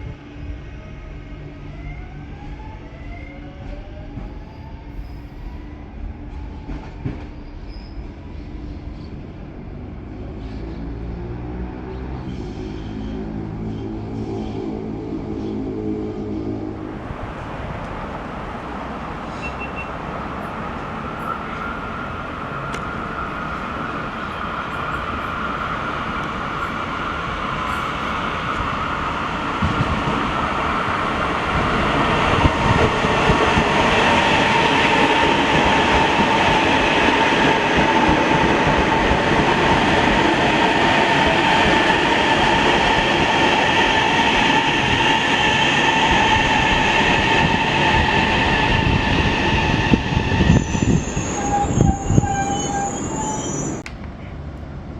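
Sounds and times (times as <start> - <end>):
train rolling on rails: 0.0 - 54.9.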